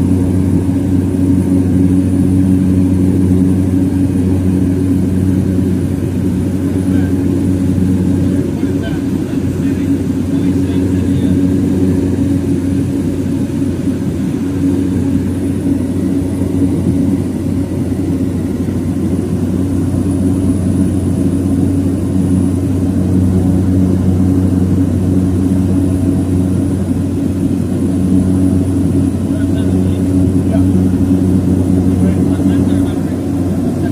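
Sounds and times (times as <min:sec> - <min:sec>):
turboprop engine drone in cabin: 0:00.0 - 0:33.9.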